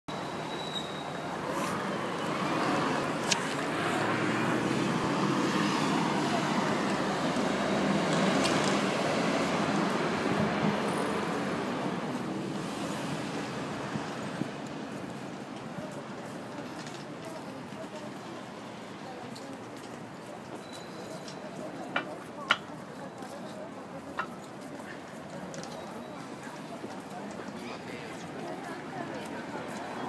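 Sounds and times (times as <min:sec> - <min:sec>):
road traffic noise: 0:00.1 - 0:30.0.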